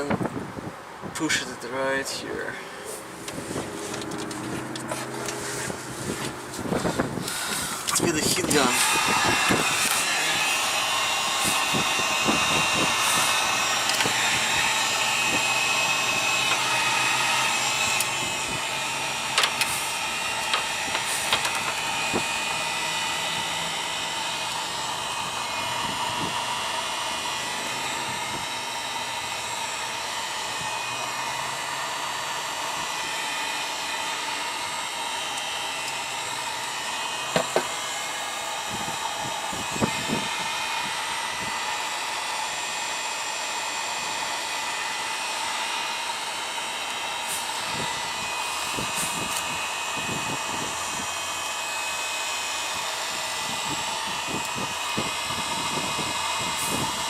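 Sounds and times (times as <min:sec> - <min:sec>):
heat gun blowing: 0:02.0 - 0:57.0.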